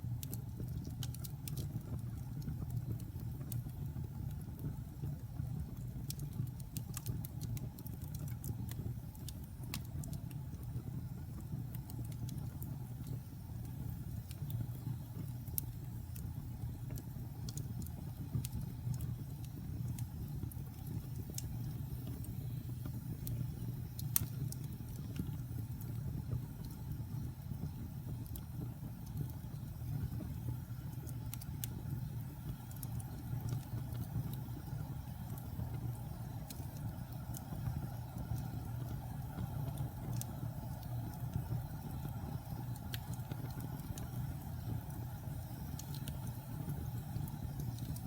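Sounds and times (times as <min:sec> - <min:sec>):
fire crackles and pops: 0:00.0 - 0:48.0
fire roaring in a fireplace: 0:00.0 - 0:48.0.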